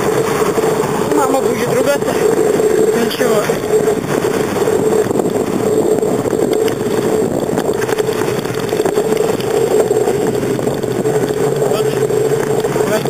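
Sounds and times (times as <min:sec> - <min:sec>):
bicycle road noise: 0:00.0 - 0:13.0
steady hum: 0:00.0 - 0:13.0
wind rushing: 0:00.0 - 0:13.0.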